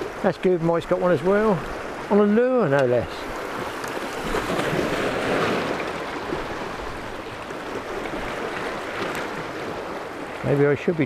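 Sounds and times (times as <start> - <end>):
sea waves breaking over boulders: 0.0 - 11.0.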